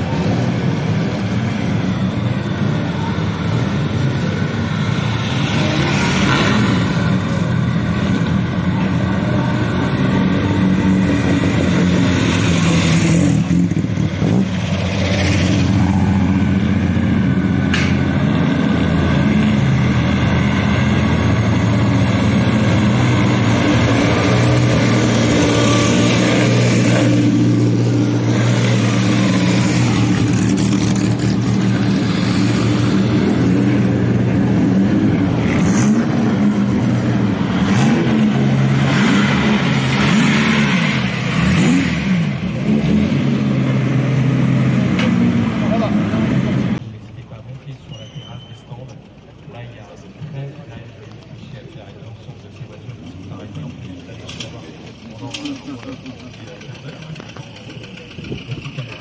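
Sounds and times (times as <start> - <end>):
cars passing close by: 0.0 - 59.0
vintage car engines running: 0.0 - 59.0.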